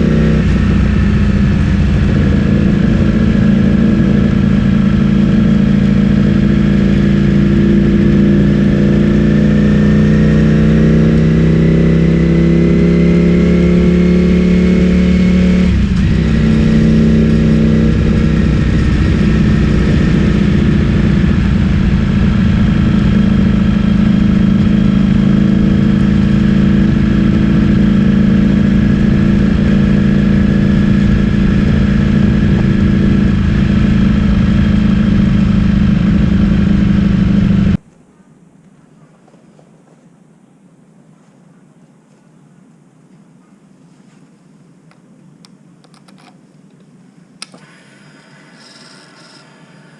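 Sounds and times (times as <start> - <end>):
motorcycle engine while riding: 0.0 - 37.8, 47.4 - 49.9.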